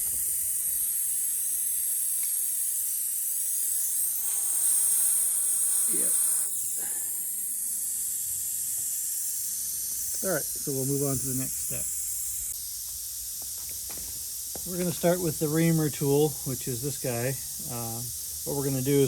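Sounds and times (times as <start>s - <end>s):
air hissing from tire: 0.0s - 19.0s.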